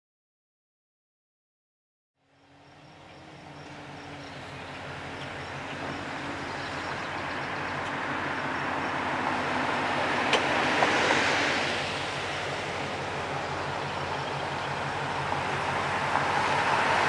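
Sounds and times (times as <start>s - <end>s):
locomotive engine drone: 2.2s - 17.0s
wheel-on-rail rumble: 2.2s - 17.0s.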